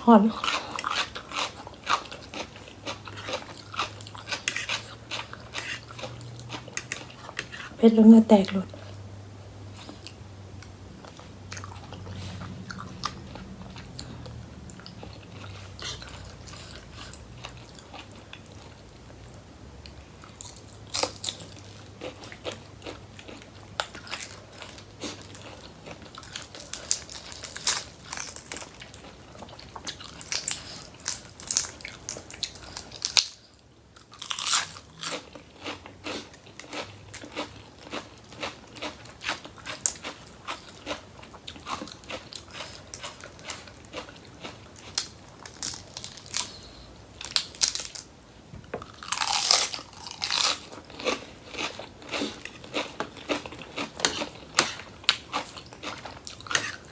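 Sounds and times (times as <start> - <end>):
chewing crisp vegetables: 0.0 - 56.9.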